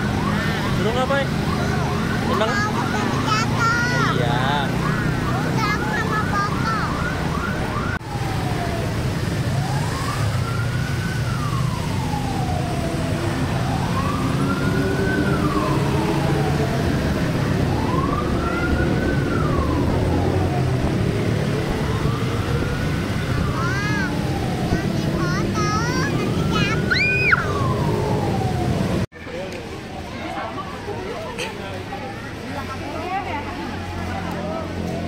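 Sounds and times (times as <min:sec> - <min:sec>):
chirping siren: 0:00.0 - 0:29.0
fire truck siren wailing: 0:00.0 - 0:29.1
truck rumble: 0:00.0 - 0:35.0
wind: 0:00.0 - 0:35.0.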